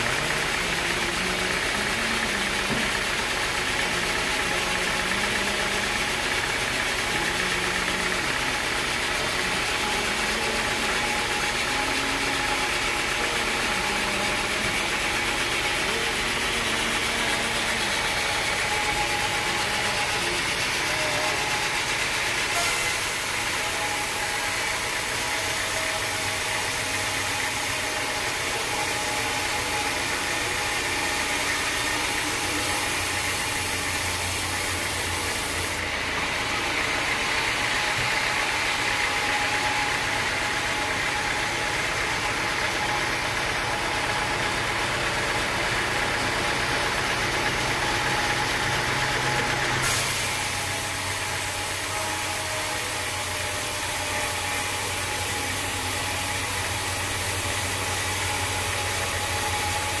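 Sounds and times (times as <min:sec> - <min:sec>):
band sawmill sawing a log: 0:00.0 - 1:00.0.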